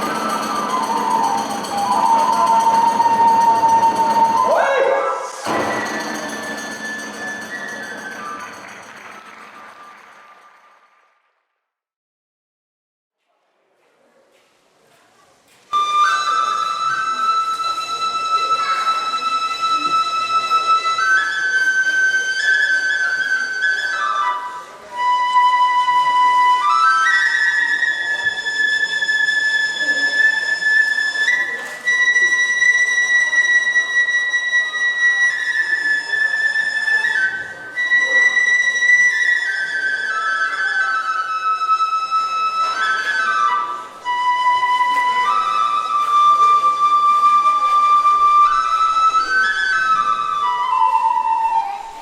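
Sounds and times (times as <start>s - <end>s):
bamboo flute slow melody: 0.0s - 9.8s, 15.8s - 52.0s.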